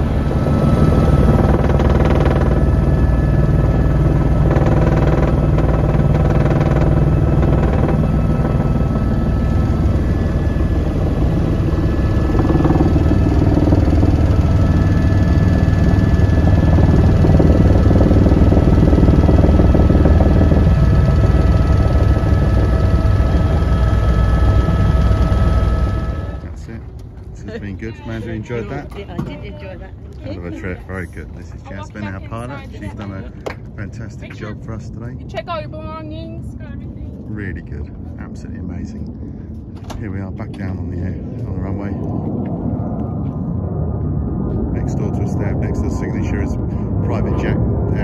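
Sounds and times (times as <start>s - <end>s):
high whine: 0.0s - 29.4s, 30.3s - 48.0s
helicopter rotor and engine hum: 0.0s - 48.0s.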